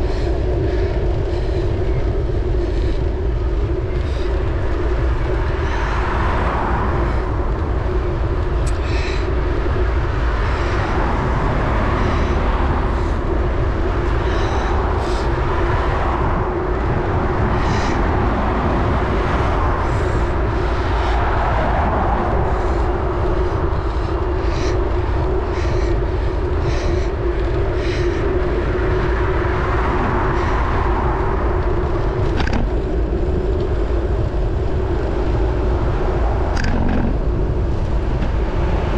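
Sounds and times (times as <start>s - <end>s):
steady hum: 0.0s - 38.9s
tyre and road noise: 0.0s - 38.9s
wind rumbling on microphone: 0.0s - 38.9s.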